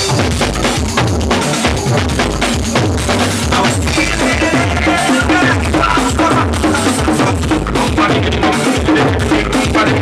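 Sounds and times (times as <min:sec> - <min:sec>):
loud soca music: 0:00.0 - 0:10.0.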